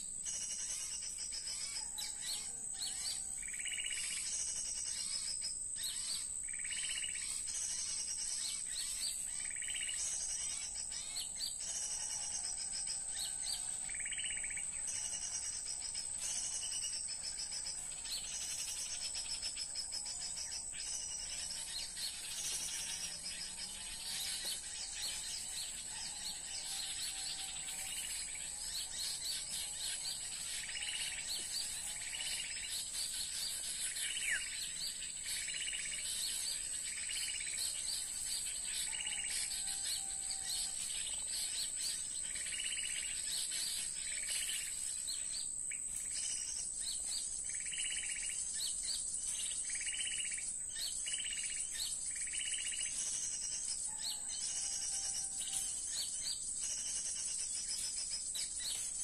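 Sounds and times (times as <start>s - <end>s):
recorded bird chirping: 0.0s - 59.0s.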